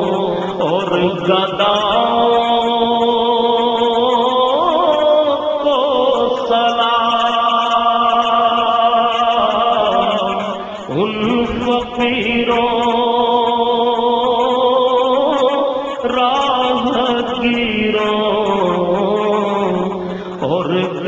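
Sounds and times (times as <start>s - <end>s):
man chanting unaccompanied: 0.0s - 21.0s.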